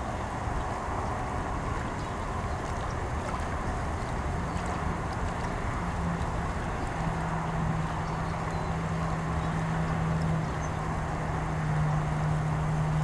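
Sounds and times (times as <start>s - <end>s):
distant traffic rumble: 0.0s - 13.0s
low engine-like hum: 0.0s - 13.0s.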